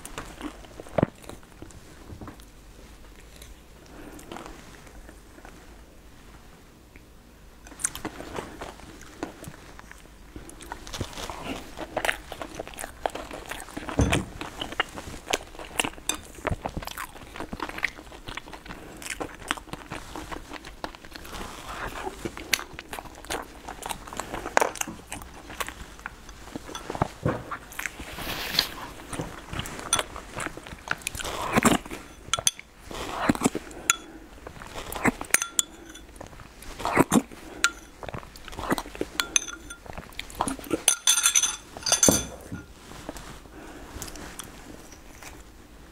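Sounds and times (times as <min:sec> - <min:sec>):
person chewing: 0:07.7 - 0:45.4.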